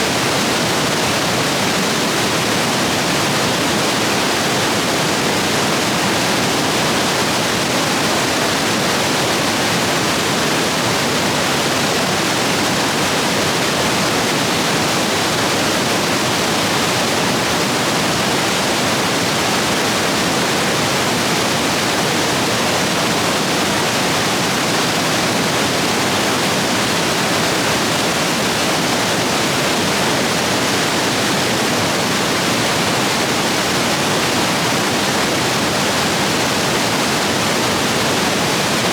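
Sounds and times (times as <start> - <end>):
rush of stream rapids: 0.0 - 38.9.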